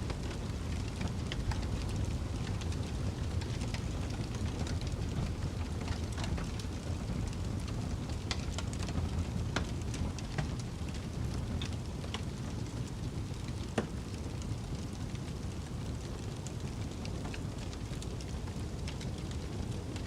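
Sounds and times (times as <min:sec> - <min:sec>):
log fire crackling: 0:00.0 - 0:20.0
wind outside: 0:00.0 - 0:20.0.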